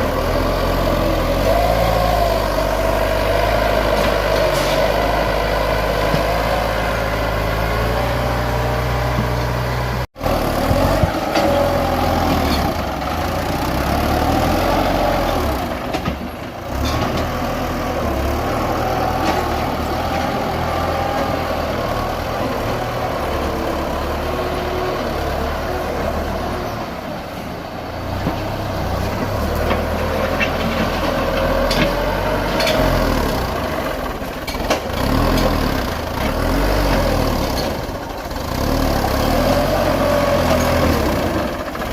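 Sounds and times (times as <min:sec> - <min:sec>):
tractor engine running under load: 0:00.0 - 0:41.9.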